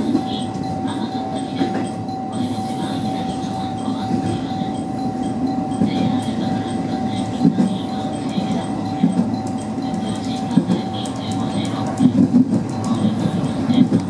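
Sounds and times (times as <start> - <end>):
constant high tone: 0.0 - 14.0
train wheels rumbling on rails: 0.0 - 14.0.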